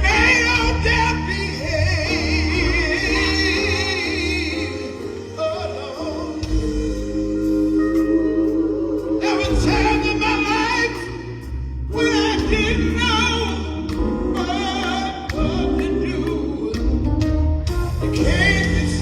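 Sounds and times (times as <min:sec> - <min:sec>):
backing voices singing: 0:00.0 - 0:17.3, 0:18.0 - 0:19.0
lead singer: 0:00.0 - 0:19.0.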